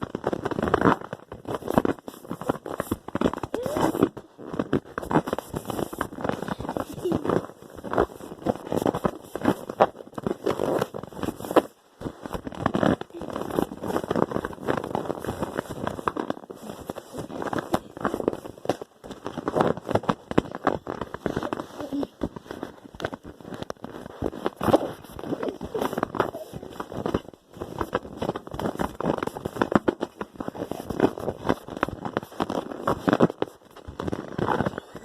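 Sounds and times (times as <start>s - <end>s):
fart sounds: 0.1s - 35.0s.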